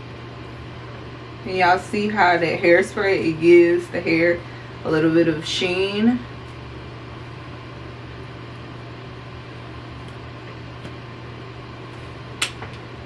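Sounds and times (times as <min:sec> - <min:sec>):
steady low hum with hiss: 0:00.0 - 0:13.0.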